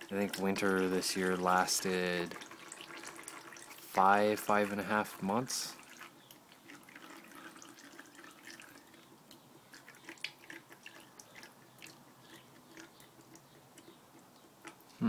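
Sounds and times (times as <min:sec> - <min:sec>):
oil dripping into funnel: 0:00.0 - 0:15.0.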